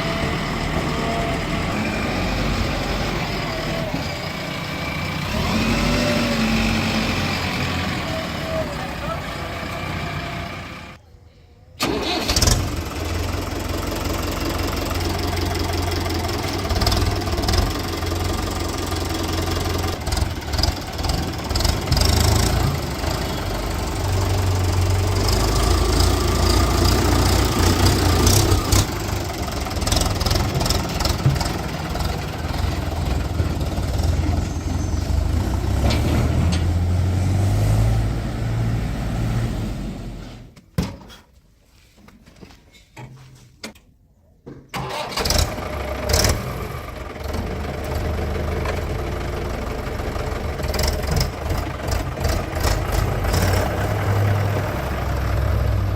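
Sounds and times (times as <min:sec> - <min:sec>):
diesel engine running: 0:00.0 - 0:11.0, 0:11.8 - 0:40.5, 0:44.8 - 0:55.9.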